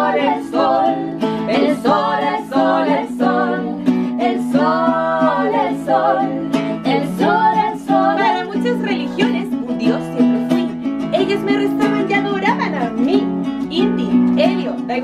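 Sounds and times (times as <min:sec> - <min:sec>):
acoustic guitar: 0:00.0 - 0:15.0
women singing: 0:00.0 - 0:15.0.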